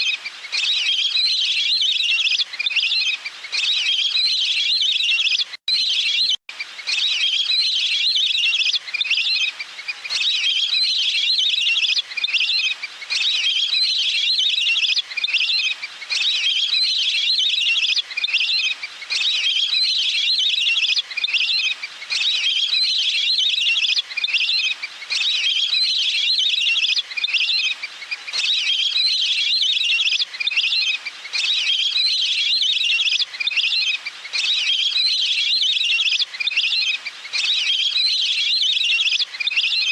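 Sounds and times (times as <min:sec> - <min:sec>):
waterfowl high chirping calls: 0:00.0 - 0:39.9.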